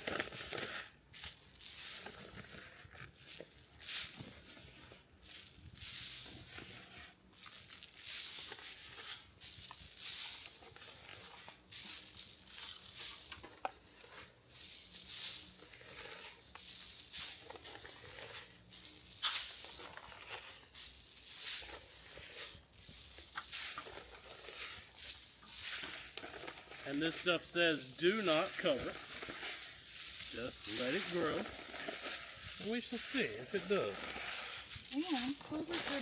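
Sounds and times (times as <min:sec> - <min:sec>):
seed scattering on dry ground: 0:00.0 - 0:36.0.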